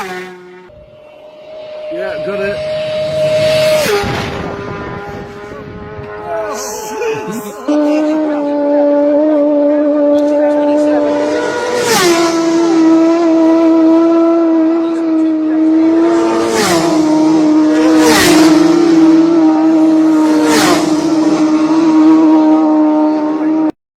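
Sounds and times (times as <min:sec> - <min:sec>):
cars passing at speed: 0:00.0 - 0:23.7
steady engine drone: 0:00.0 - 0:23.7.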